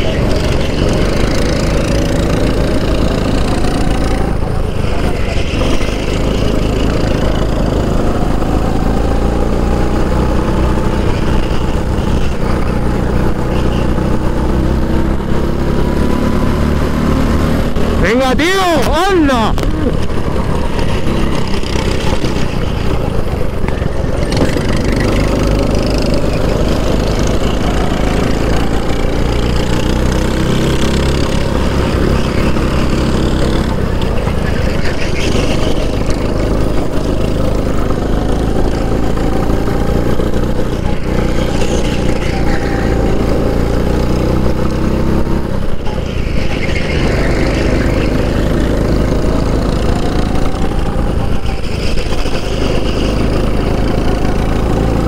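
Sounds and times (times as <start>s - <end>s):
racing kart engine running hard: 0.0s - 55.0s.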